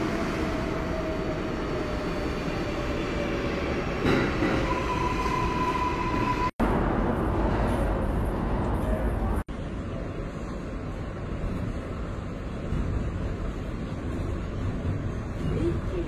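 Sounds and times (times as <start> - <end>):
subway wheels rumbling: 0.0 - 16.0.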